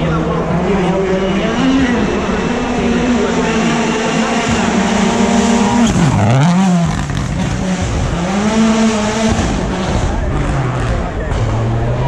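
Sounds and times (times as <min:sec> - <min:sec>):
car engine revving hard: 0:01.4 - 0:12.0.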